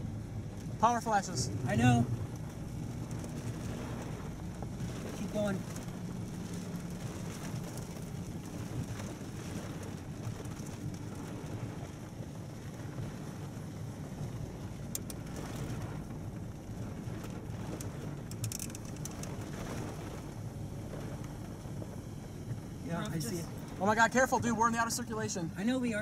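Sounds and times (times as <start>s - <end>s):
car driving rumble: 0.0s - 26.0s
rain on windshield: 0.0s - 26.0s.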